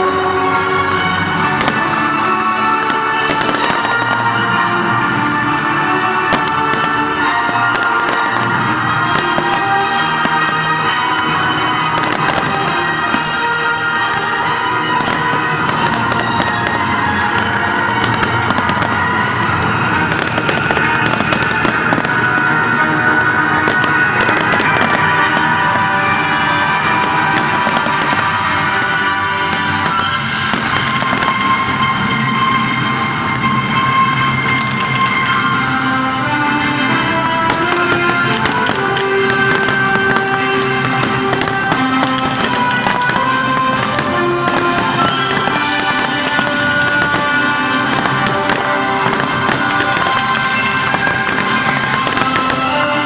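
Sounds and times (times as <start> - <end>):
fireworks crackling and popping: 0.0 - 53.0
loud music with sustained tones: 0.0 - 53.0.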